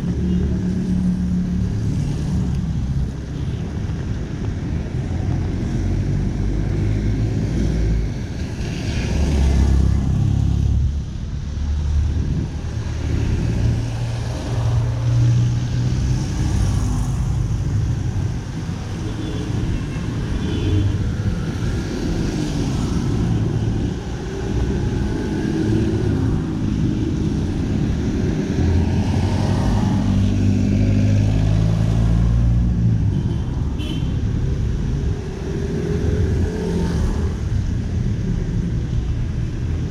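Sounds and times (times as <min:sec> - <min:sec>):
cars passing: 0:00.0 - 0:39.9
motorcycles passing: 0:00.0 - 0:39.9
steady traffic hum: 0:00.0 - 0:39.9.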